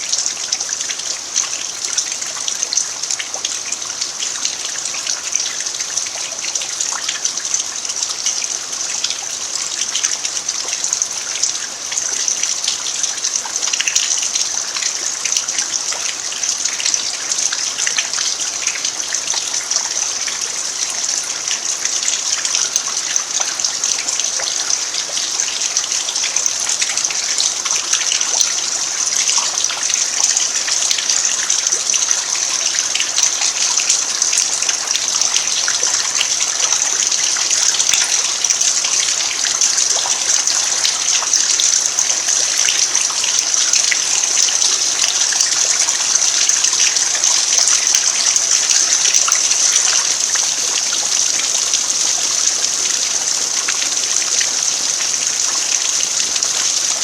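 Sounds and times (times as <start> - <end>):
rain falling on earth: 0.0 - 57.0.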